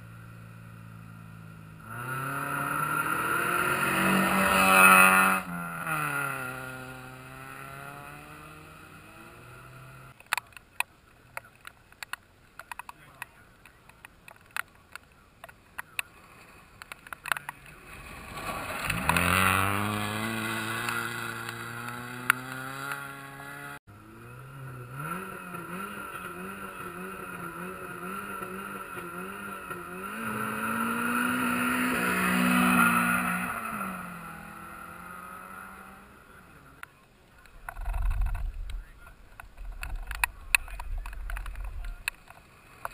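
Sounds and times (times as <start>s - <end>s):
rally car passing: 0.0s - 10.2s, 17.5s - 42.9s
rally car engine revving: 1.4s - 10.2s, 16.0s - 42.9s.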